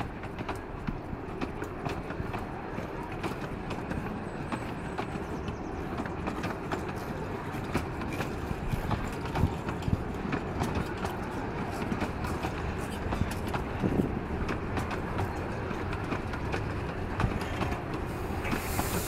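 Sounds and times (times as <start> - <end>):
train wheels clicking over rail joints: 0.0 - 19.0.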